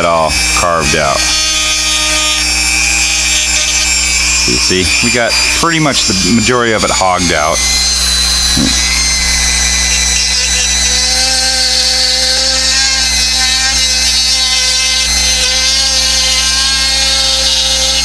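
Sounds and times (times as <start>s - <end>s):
rotary tool grinding plastic: 0.0s - 18.0s.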